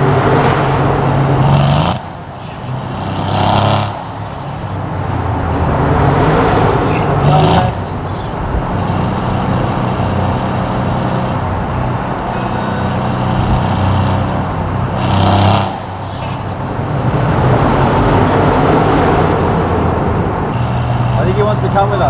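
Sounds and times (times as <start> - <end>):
car engine droning: 0.0 - 22.0
road noise: 0.0 - 22.0.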